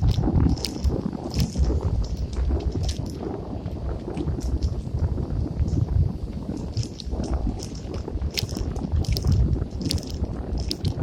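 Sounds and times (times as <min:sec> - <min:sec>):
bicycle clicks and rattles: 0:00.0 - 0:11.0
wind buffeting microphone: 0:00.0 - 0:11.0.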